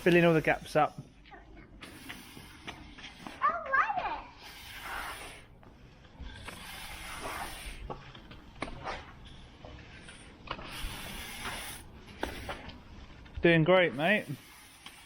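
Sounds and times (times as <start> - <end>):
broom sweeping sand on paving: 0.0 - 0.9, 1.8 - 15.0.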